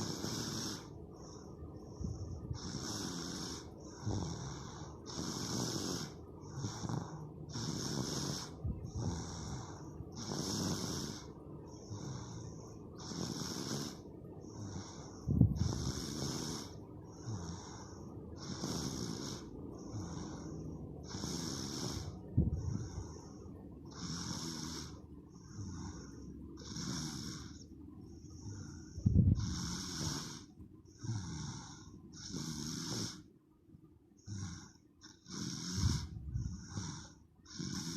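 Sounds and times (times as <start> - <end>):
deep snort: 0.0 - 0.9, 2.0 - 23.3, 23.9 - 27.7, 28.3 - 33.3, 34.2 - 37.9
loud rasping snoring: 0.0 - 0.9, 2.5 - 23.2, 23.9 - 27.7, 28.4 - 33.3, 34.2 - 37.9.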